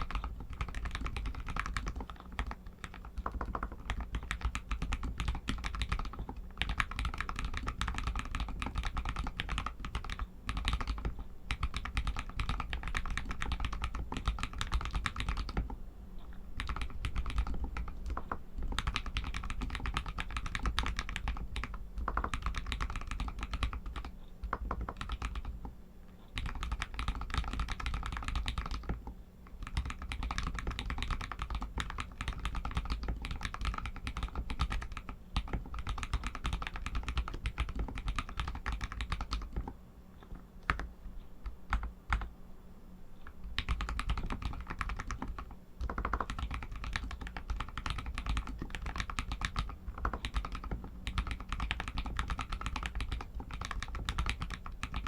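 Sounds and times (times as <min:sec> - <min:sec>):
fast typing on mechanical keyboard: 0:00.0 - 0:15.8, 0:16.6 - 0:25.7, 0:26.3 - 0:42.3, 0:43.4 - 0:55.0.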